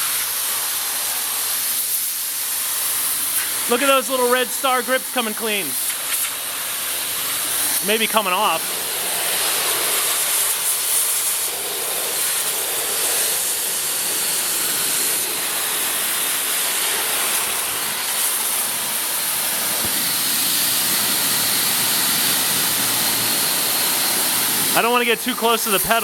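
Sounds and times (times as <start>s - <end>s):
pressure washer spraying: 0.0s - 26.0s.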